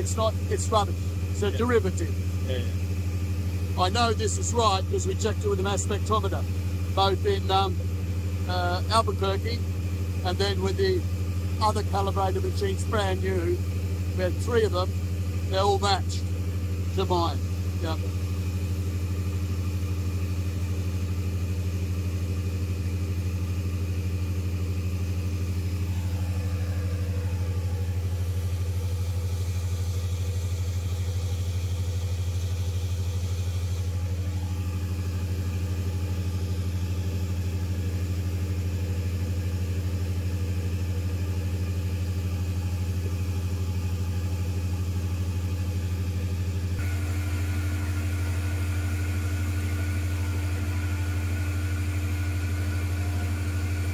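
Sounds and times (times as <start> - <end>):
generator humming: 0.0 - 53.9.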